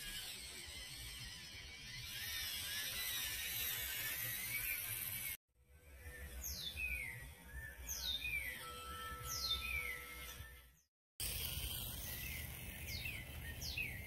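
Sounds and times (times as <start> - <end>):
small electric motor whirring: 0.0 - 7.9, 8.5 - 14.0.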